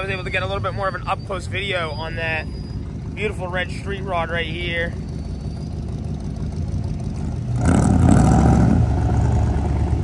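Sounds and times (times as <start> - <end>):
car engines rumbling past: 0.0 - 10.0.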